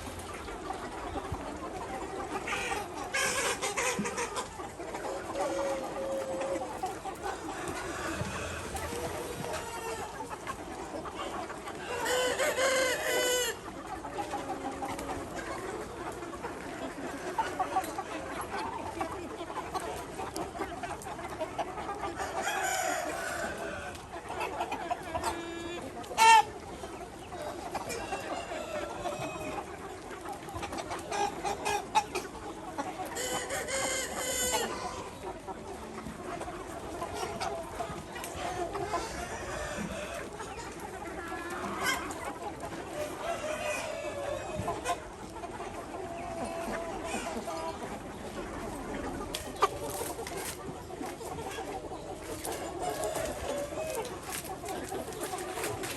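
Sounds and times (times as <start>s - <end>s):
chickens clucking: 0.0s - 55.9s.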